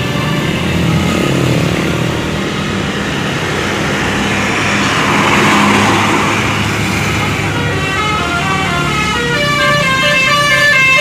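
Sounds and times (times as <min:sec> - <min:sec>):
broad rushing noise: 0:00.0 - 0:09.6.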